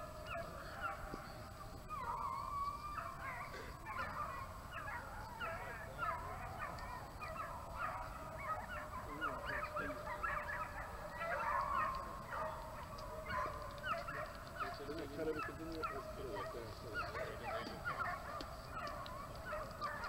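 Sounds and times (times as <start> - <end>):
pack of hounds baying: 0.0 - 20.0.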